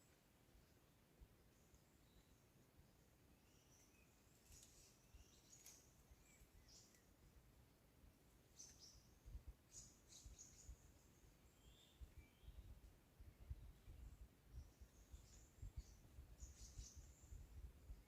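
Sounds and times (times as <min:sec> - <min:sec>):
songbird chirps: 0:00.0 - 0:18.0.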